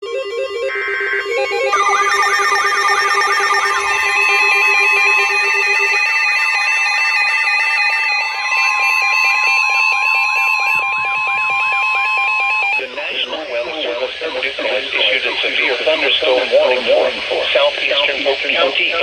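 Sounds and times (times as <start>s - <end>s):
electronic emergency alert tones: 0.0s - 18.7s.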